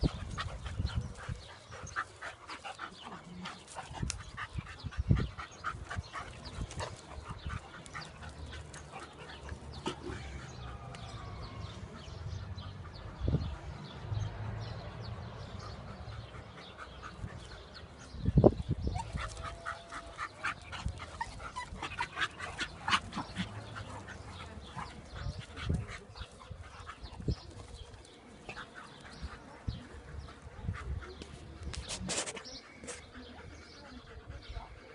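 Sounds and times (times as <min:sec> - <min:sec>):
dogs' paws clicking and scuffling: 0:00.0 - 0:12.7, 0:15.3 - 0:34.9.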